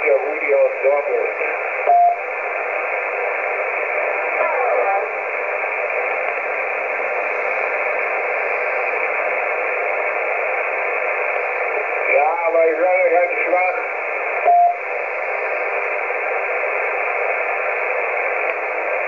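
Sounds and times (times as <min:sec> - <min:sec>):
faint radio warble: 0:00.0 - 0:19.0
radio static hiss: 0:00.0 - 0:19.0.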